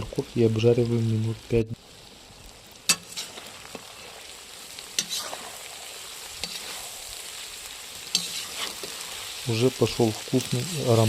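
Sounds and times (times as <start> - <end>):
carrots sizzling in fat: 0.0 - 11.0.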